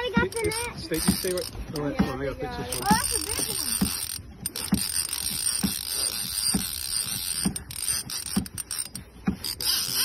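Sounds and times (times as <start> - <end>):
reel handle knocking: 0.0 - 10.0
fishing reel gears clicking: 0.3 - 2.0, 2.7 - 10.0.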